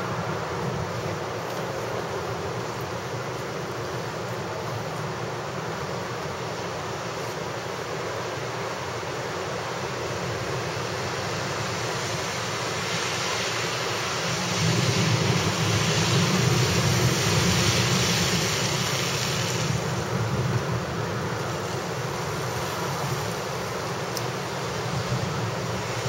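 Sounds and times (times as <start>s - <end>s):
heavy wind-driven rain: 0.0s - 26.0s.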